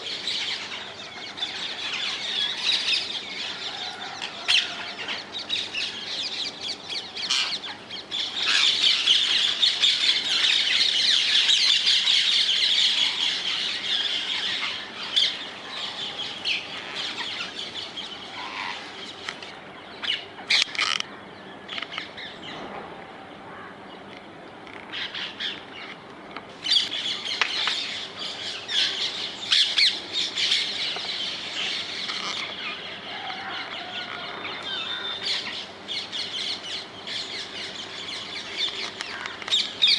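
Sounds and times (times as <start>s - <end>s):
flock of parakeets calling: 0.0s - 21.1s, 26.6s - 39.9s.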